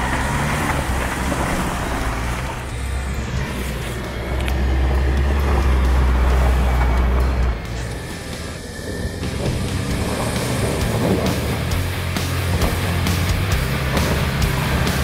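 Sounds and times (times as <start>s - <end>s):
pickup engine pulling under load: 0.0s - 15.0s.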